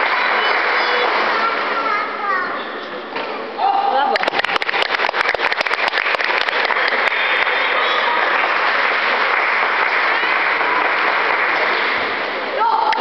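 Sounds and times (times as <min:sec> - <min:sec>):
spectators applauding: 0:00.0 - 0:02.0, 0:04.0 - 0:13.0.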